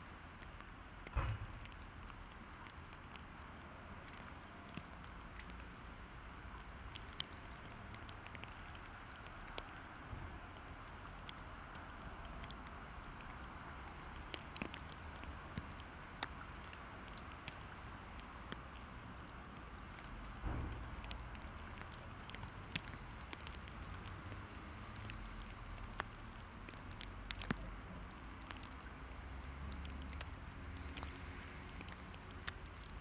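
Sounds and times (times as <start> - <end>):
low rumble and hiss: 0.0 - 33.0.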